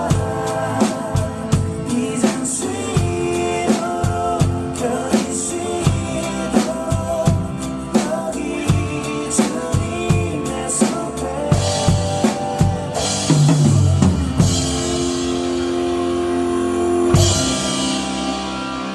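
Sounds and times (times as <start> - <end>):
drum kit beat: 0.0 - 16.0, 17.1 - 18.8
instrumental pop band music: 0.0 - 18.9.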